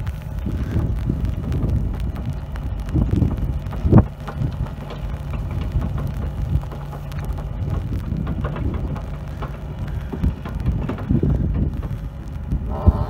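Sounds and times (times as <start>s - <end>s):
diesel engine humming: 0.0s - 13.0s
irregular crackling patter: 0.0s - 13.0s.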